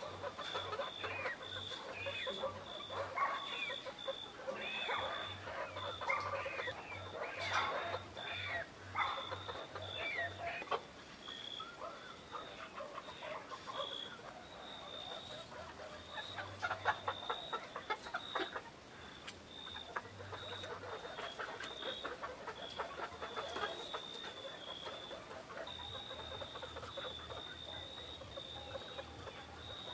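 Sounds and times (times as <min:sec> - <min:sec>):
chickens clucking softly: 0:00.0 - 0:29.9.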